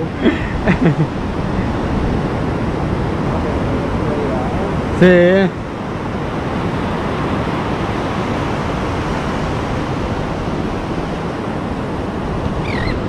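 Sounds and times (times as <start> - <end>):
ocean surf breaking: 0.0 - 13.0
wind noise on microphone: 0.0 - 13.0.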